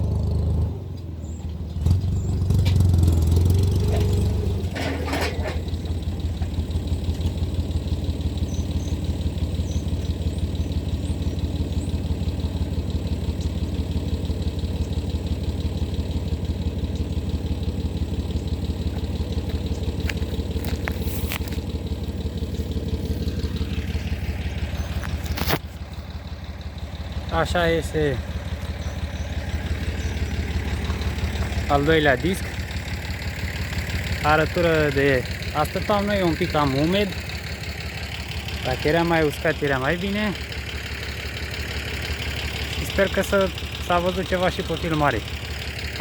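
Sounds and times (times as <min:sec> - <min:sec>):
tractor engine running under load: 0:00.0 - 0:46.0.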